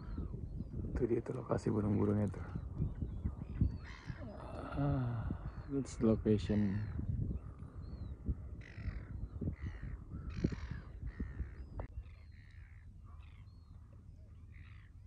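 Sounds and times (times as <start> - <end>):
birds giving harsh calls: 0.0 - 15.0.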